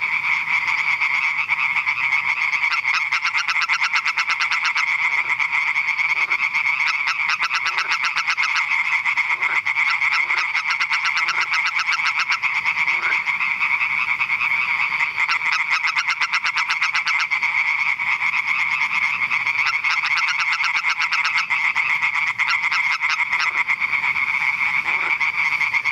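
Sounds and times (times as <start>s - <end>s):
tree frog calling: 0.0s - 25.9s.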